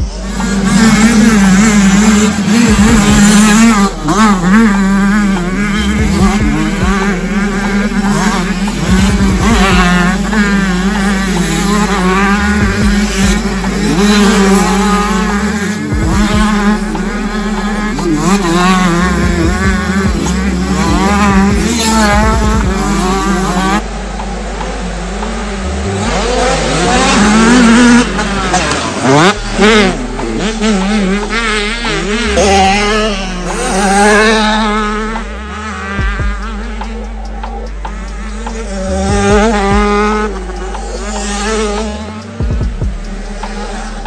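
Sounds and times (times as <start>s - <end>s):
motocross bikes revving: 0.0s - 44.0s.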